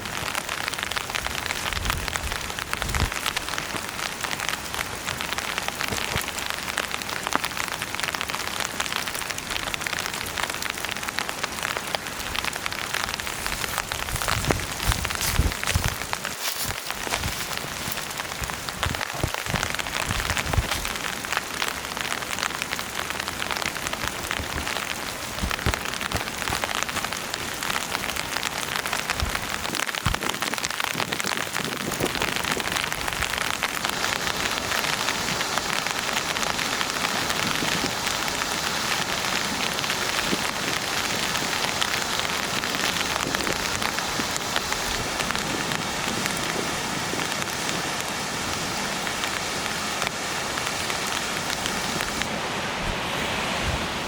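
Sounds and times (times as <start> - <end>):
steady rain patter: 0.0 - 54.0
heavy drips: 0.1 - 48.3.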